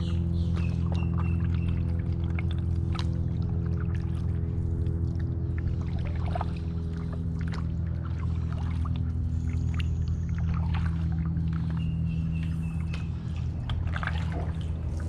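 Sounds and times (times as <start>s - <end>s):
paddle splashing water: 0.0s - 15.0s
steady low hum: 0.0s - 15.0s.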